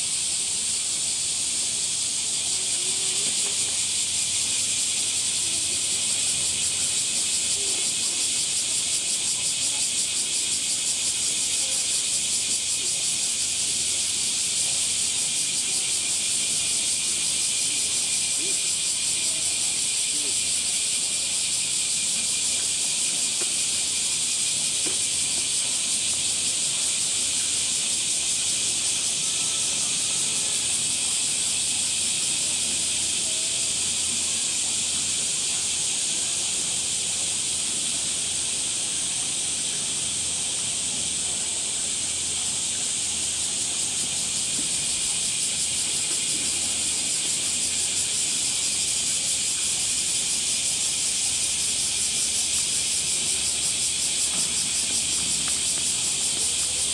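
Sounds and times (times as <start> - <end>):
cicadas chorus: 0.0 - 56.9.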